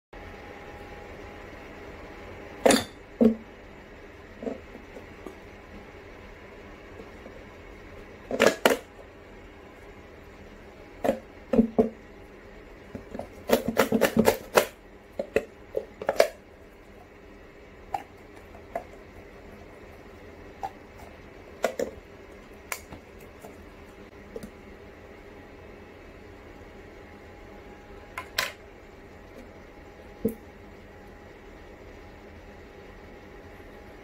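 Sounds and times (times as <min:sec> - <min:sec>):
faint steady hum: 0:00.2 - 0:34.0.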